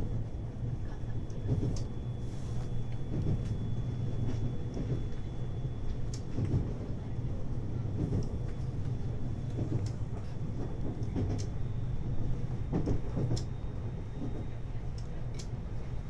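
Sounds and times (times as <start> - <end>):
train running low rumble: 0.0 - 16.0.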